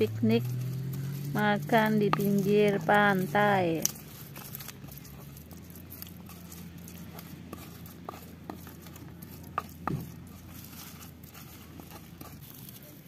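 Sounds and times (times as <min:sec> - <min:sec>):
utensils clicking and tapping: 0:00.0 - 0:13.0.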